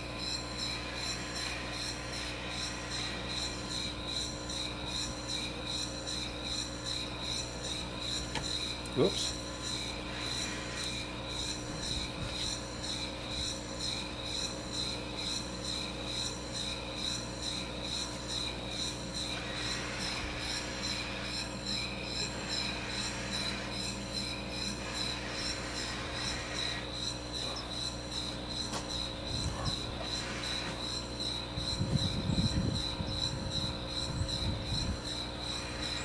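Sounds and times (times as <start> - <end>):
rhythmic rasping air hiss: 0.0 - 36.0.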